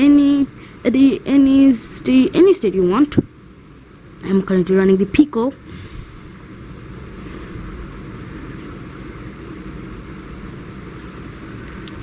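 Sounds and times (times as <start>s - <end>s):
low rumble with hiss: 0.0s - 12.0s.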